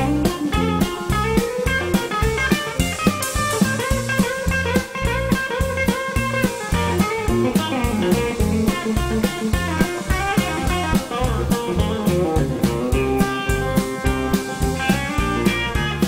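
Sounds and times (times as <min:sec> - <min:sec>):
drum kit beat: 0:00.0 - 0:16.0
electric bass: 0:00.0 - 0:16.0
electric guitar lead lines: 0:00.0 - 0:16.0.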